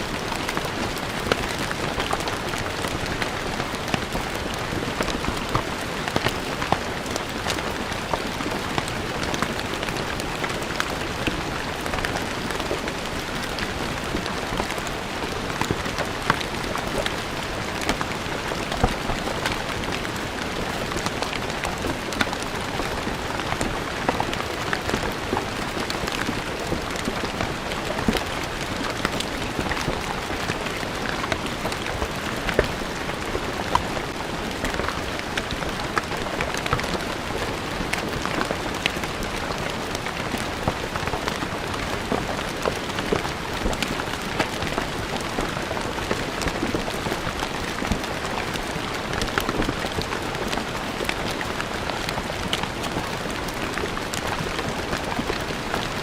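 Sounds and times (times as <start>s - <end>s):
rain pattering on stone: 0.0s - 56.0s.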